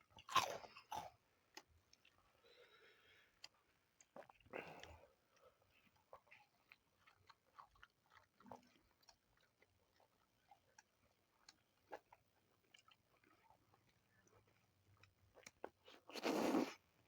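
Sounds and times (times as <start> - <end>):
person chewing: 0.2 - 2.2, 3.4 - 16.7.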